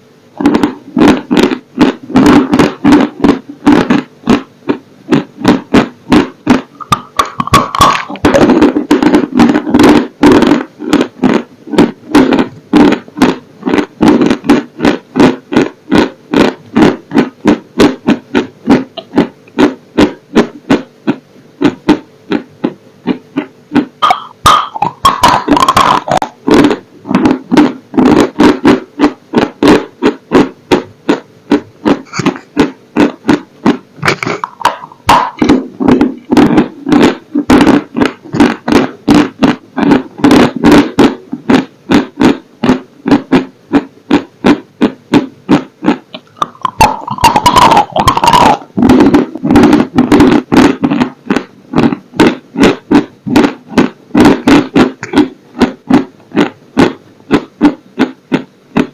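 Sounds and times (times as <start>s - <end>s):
chewing dry crunchy food: 0.4s - 58.9s.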